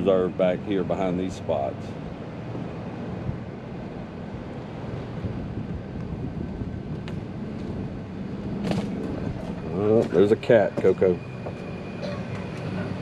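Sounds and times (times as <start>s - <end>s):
wind buffeting microphone: 1.9s - 13.0s.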